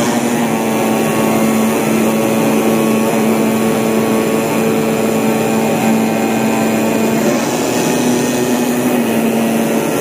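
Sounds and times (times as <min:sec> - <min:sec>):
cutting machine hum: 0:00.0 - 0:10.0.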